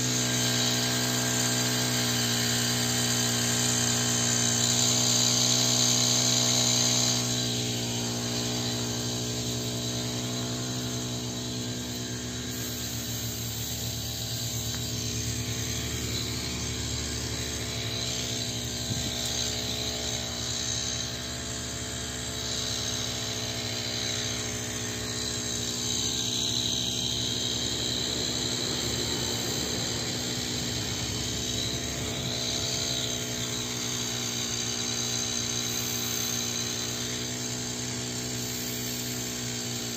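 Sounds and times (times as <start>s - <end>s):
spray pump engine droning: 0.0s - 39.9s.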